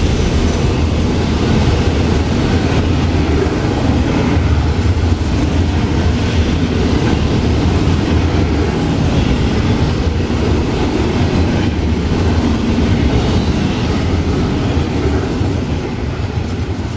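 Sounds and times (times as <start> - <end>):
freight train wheels rumbling on rail: 0.0 - 16.9.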